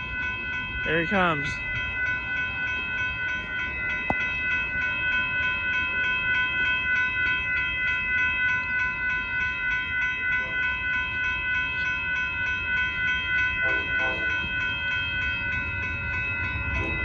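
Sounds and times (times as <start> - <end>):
crossing warning bell ringing: 0.0 - 17.0
train rumbling: 0.0 - 17.0.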